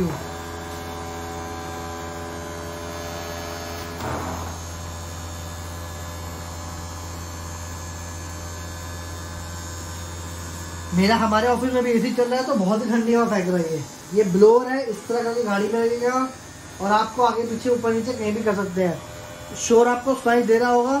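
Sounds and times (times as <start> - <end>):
blower humming and whirring: 0.0 - 21.0.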